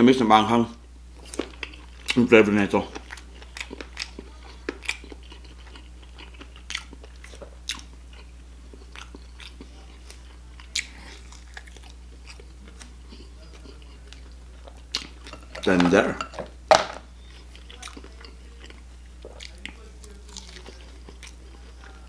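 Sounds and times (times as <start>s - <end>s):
chewing and mouth smacking: 1.2s - 2.2s, 2.8s - 15.5s, 17.2s - 22.0s.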